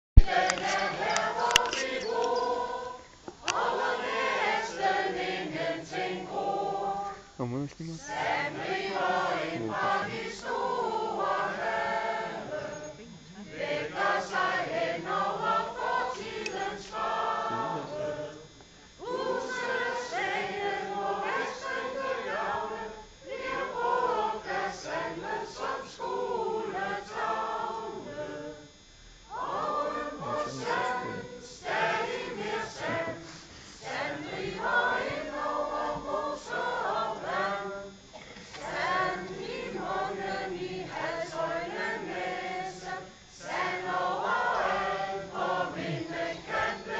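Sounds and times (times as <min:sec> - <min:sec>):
choir singing unaccompanied: 0:00.2 - 0:46.9.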